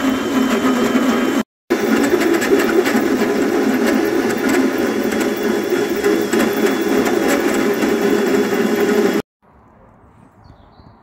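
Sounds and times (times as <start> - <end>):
power drill grinding through steel: 0.0 - 9.3.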